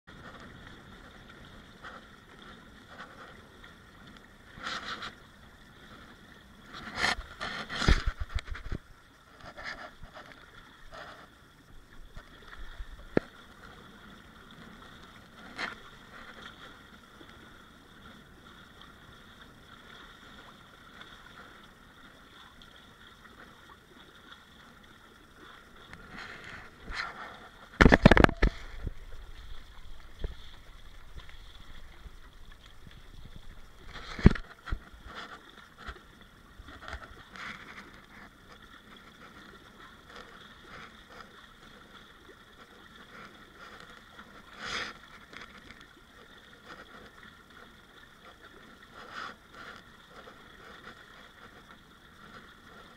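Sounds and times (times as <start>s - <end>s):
water rushing against hulls: 0.1s - 52.9s.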